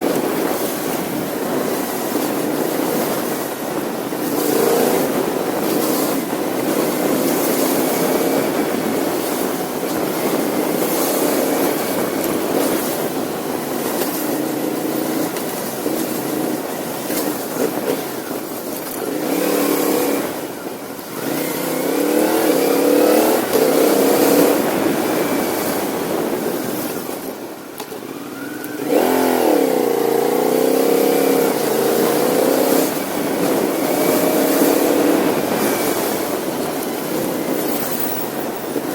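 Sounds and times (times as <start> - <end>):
motorcycle engine revving: 0.0 - 27.2, 28.1 - 38.9
rush of wind: 0.0 - 38.9.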